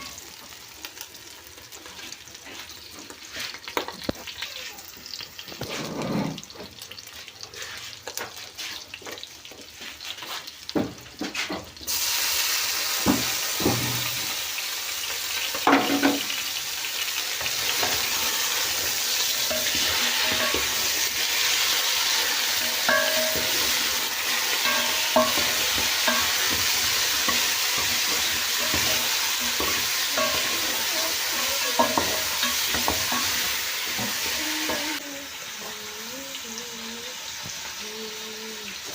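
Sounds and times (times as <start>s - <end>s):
chicken frying in oil: 0.0s - 38.9s.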